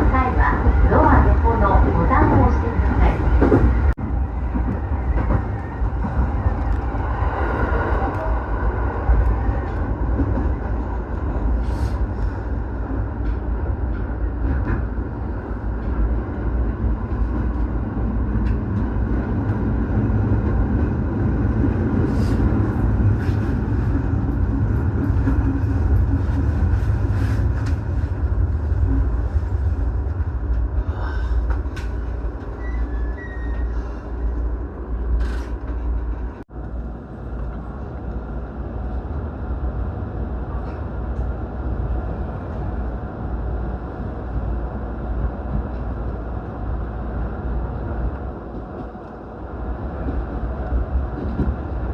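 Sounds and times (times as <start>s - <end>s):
train rumbling: 0.0s - 51.9s.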